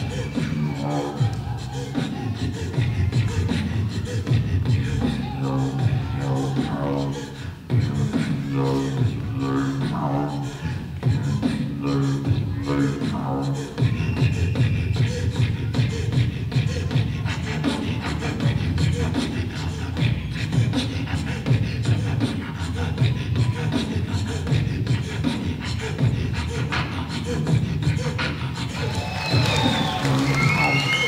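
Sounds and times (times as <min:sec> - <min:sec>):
man beatboxing: 0:00.0 - 0:31.0.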